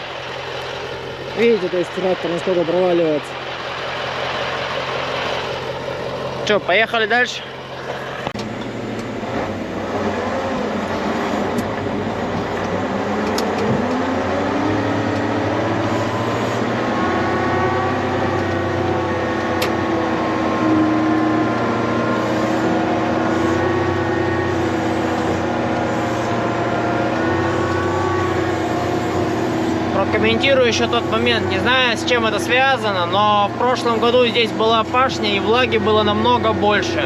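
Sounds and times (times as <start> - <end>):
tractor diesel engine revving: 0.0 - 37.0.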